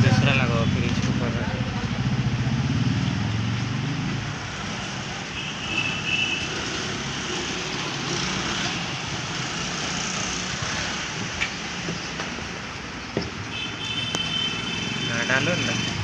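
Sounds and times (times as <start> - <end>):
background traffic noise: 0.0 - 16.0.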